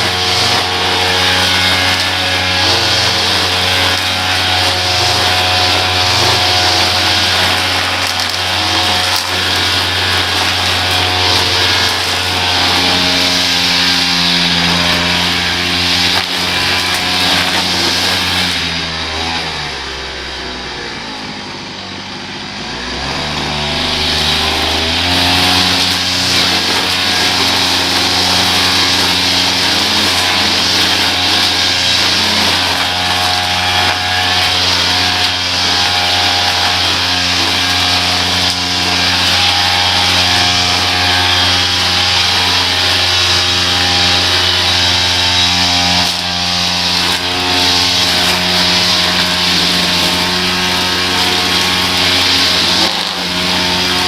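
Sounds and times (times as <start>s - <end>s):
small petrol engine revving: 0.0s - 54.0s.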